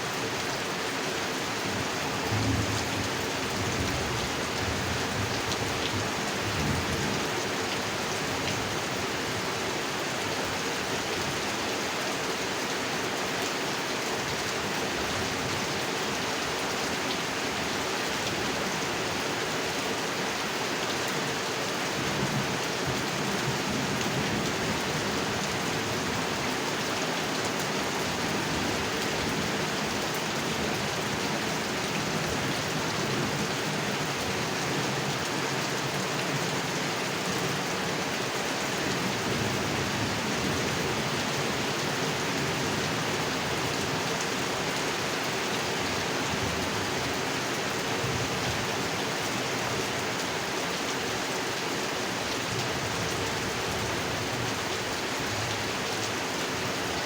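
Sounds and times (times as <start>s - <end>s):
heavy rain on pond water: 0.0s - 57.0s.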